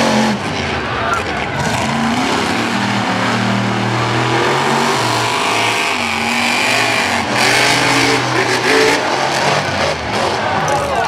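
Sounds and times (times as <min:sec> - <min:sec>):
monster truck engines revving: 0:00.0 - 0:11.0.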